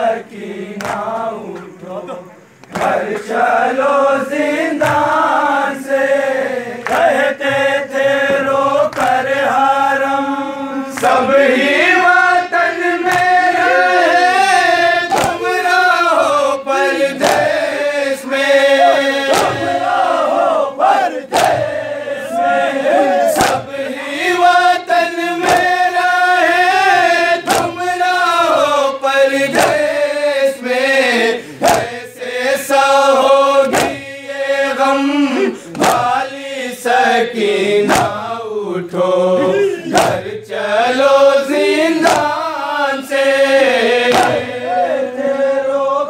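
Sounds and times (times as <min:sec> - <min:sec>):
men singing a lament: 0:00.0 - 0:46.0
rhythmic chest-beating: 0:00.0 - 0:46.0.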